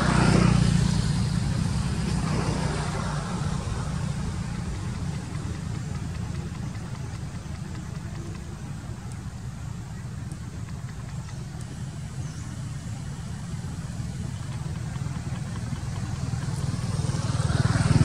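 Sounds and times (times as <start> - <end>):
vehicle engine passing by: 0.0 - 8.3, 11.8 - 18.0
low engine hum: 0.0 - 18.0.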